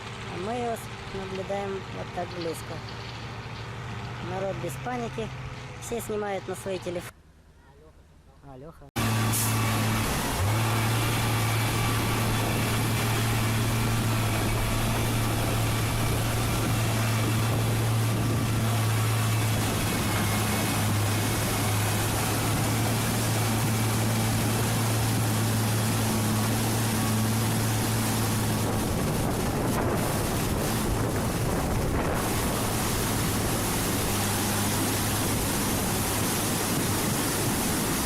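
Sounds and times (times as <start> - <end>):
large engine humming: 0.0 - 7.2, 9.0 - 38.0.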